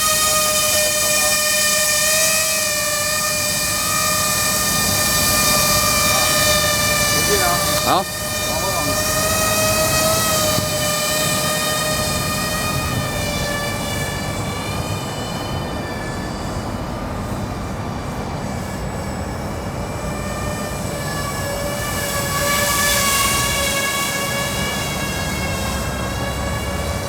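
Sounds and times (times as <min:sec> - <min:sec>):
rc aircraft motors whining: 0:00.0 - 0:27.0
wind rumble on microphone: 0:03.1 - 0:27.0.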